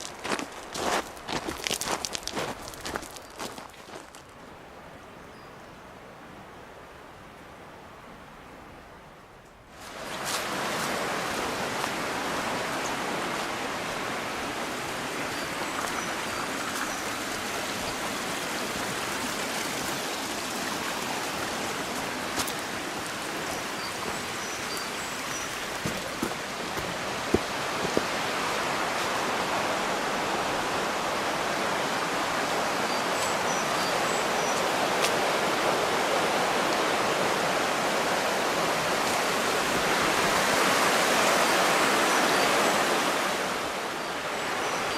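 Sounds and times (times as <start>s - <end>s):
mountain stream rushing: 0.0s - 5.1s, 9.7s - 44.9s.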